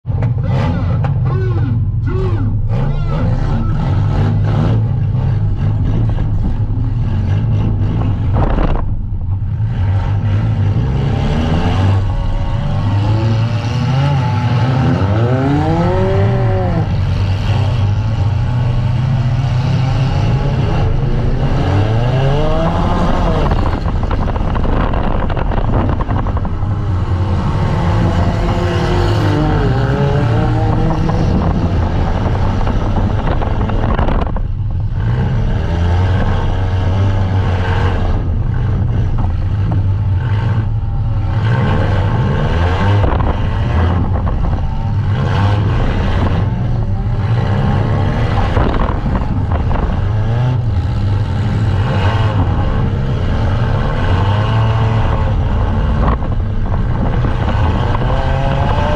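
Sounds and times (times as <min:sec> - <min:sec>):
car engine revving: 0:00.1 - 0:58.9.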